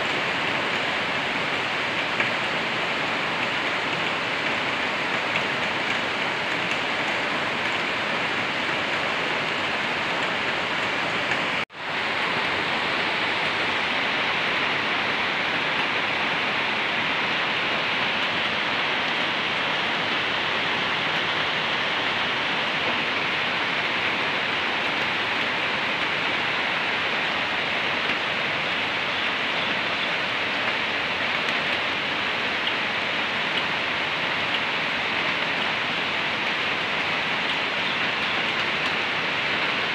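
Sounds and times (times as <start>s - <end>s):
heavy rain on metal roofs: 0.0s - 39.9s.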